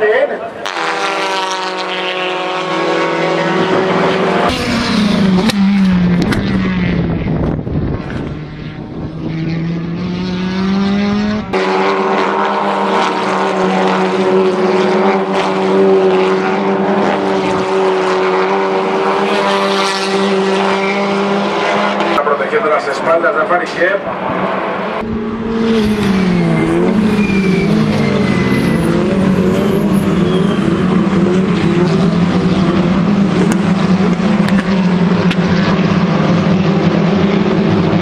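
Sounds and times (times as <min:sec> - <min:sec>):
racing car engines droning: 0:00.0 - 0:38.0.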